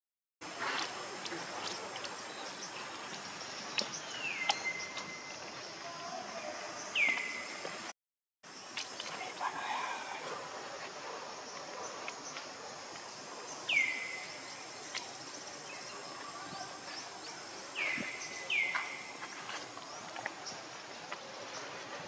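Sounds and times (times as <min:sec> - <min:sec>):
outdoor background noise: 0:00.4 - 0:22.0.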